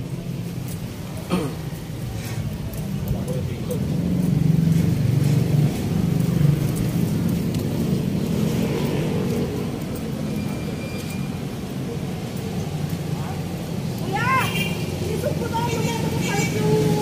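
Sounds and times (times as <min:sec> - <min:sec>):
motorcycles passing: 0:00.0 - 0:17.0.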